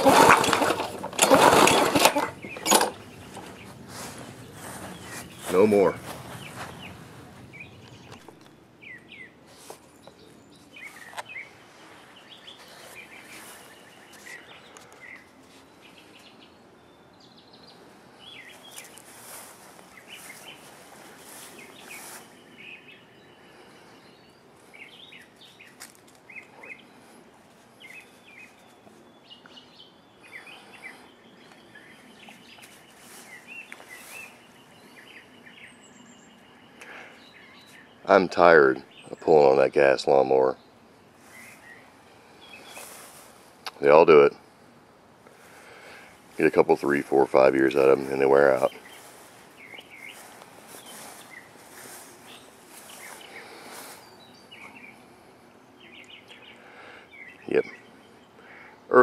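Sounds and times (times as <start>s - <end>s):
faint outdoor hiss: 0.0s - 59.0s
songbirds chirping: 0.0s - 59.0s.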